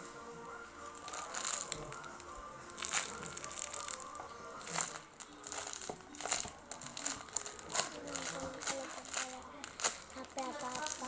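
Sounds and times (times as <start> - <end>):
plastic packaging crinkling: 0.9 - 11.0.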